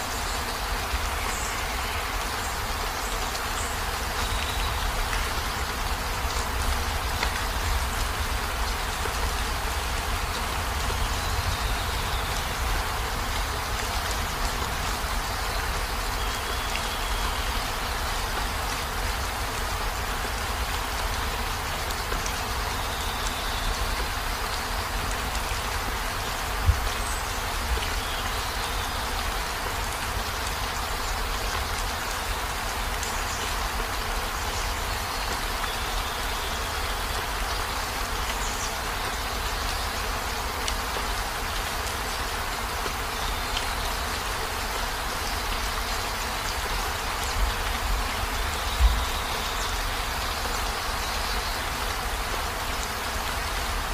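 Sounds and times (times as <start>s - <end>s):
heavy rain on vehicle roof: 0.0s - 53.9s.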